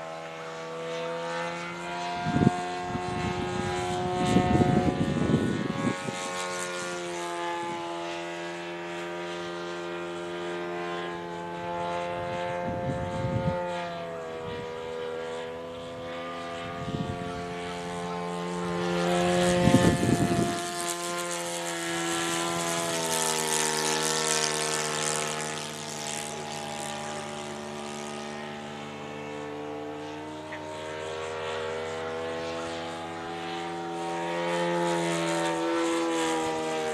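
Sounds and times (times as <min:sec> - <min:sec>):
model airplane engine droning: 0:00.0 - 0:36.9.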